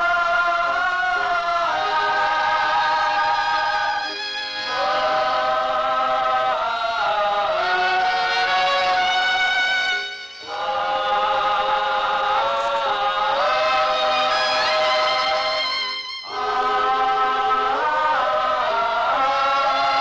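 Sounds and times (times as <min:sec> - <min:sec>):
choir singing held notes: 0:00.0 - 0:20.0.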